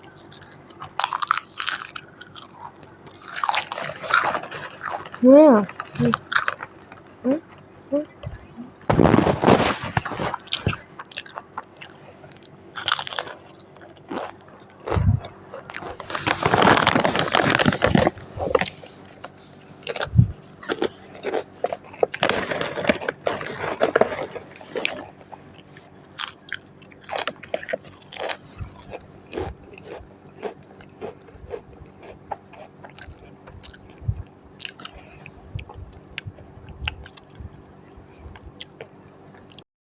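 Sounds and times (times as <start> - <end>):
person chewing crisp chips: 0.0 - 39.6.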